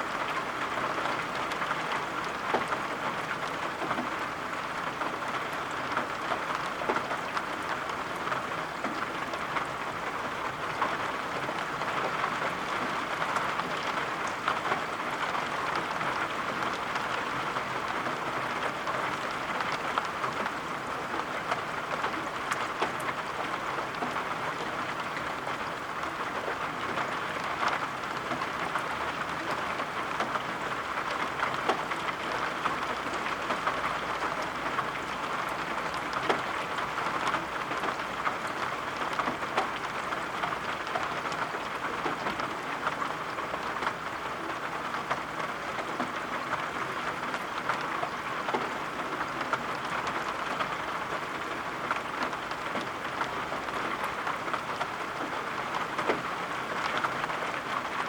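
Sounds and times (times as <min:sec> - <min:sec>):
steady rain drops tapping: 0:00.0 - 0:58.0.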